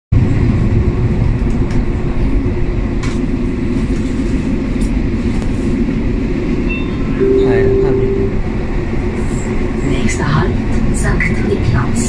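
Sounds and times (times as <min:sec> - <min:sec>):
train interior rumble: 0:00.2 - 0:12.0.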